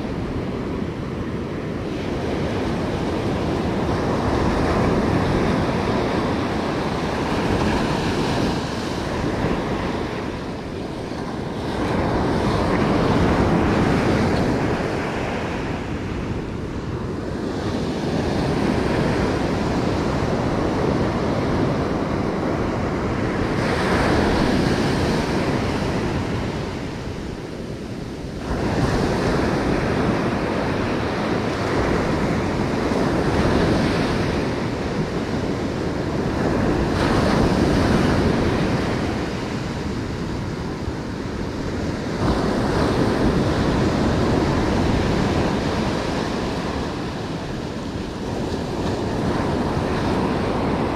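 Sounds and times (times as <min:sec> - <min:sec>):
ocean surf breaking on beach: 0:00.0 - 0:50.9.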